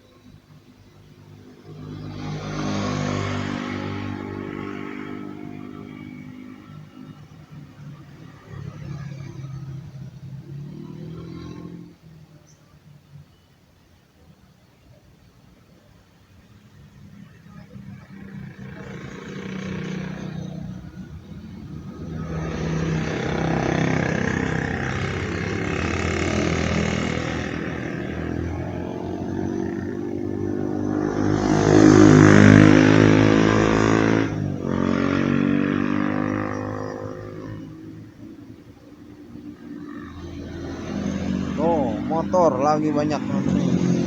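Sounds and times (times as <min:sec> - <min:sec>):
road vehicles passing: 0:00.0 - 0:44.0.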